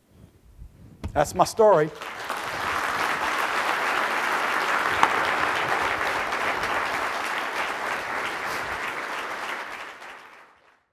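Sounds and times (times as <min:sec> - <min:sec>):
audience applauding: 0:01.6 - 0:10.9.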